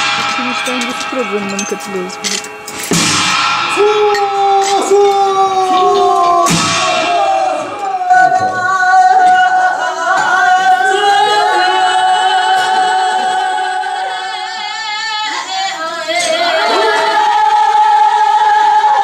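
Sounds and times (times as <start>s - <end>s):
high voice singing: 3.8s - 19.0s.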